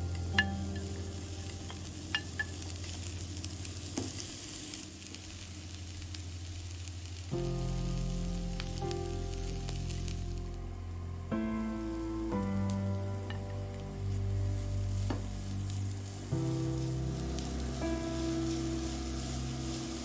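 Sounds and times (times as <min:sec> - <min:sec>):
soft background music: 0:00.0 - 0:05.4, 0:06.2 - 0:20.0
onion sizzling in oil: 0:00.0 - 0:10.6, 0:11.6 - 0:20.0.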